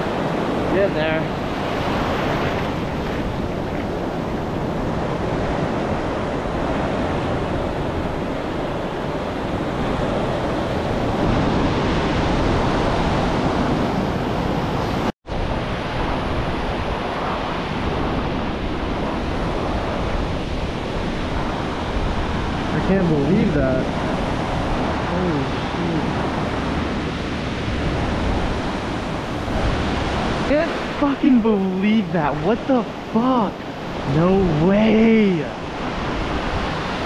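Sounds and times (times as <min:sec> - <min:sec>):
surf washing up beach: 0:00.0 - 0:37.0
wind rumbling on microphone: 0:00.0 - 0:37.0.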